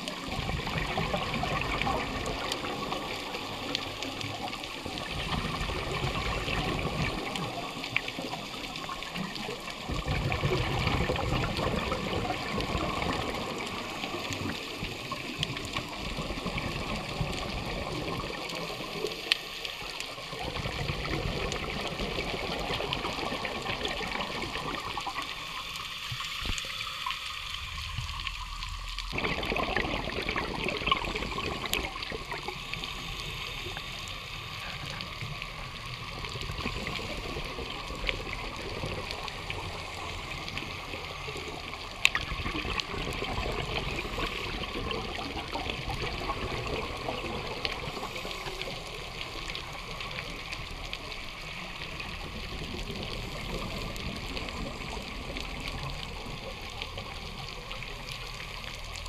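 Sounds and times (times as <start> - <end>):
muffled underwater rushing water: 0.0 - 59.0.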